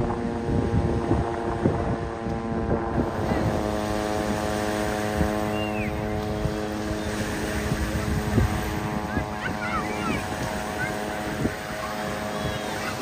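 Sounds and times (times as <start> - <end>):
beach noise: 0.0 - 13.0
steady engine drone: 0.0 - 13.0
distant voices: 2.1 - 13.0.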